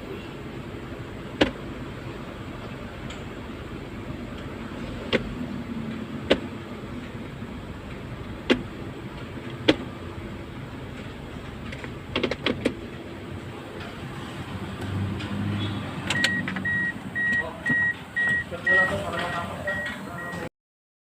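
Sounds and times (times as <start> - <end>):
car engine humming: 0.0 - 20.5.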